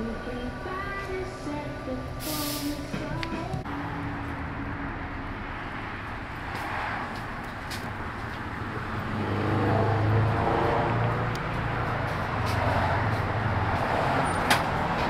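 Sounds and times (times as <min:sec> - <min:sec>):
street traffic noise: 0:00.0 - 0:15.0
vehicle engine running: 0:00.0 - 0:15.0.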